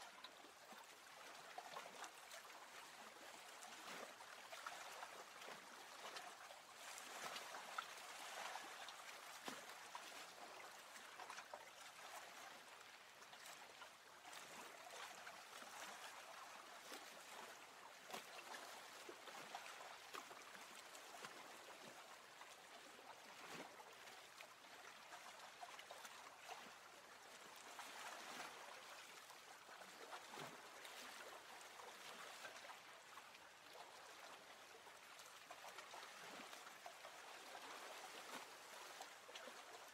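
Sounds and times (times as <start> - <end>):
faint water lapping: 0.0 - 39.9.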